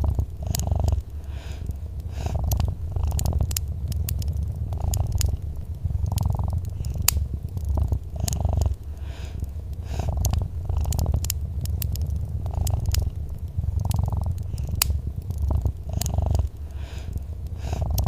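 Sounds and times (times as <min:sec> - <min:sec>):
cat purring: 0:00.0 - 0:18.0
fireplace crackling and popping: 0:00.0 - 0:18.0.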